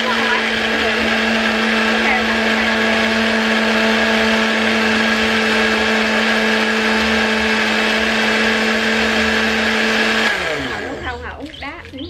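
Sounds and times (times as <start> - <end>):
electric blender running: 0.0 - 11.3.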